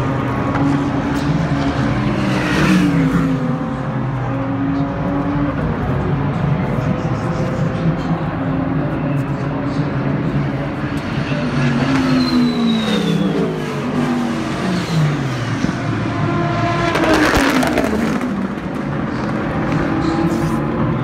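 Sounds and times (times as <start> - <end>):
race cars passing at speed: 0.0 - 21.0.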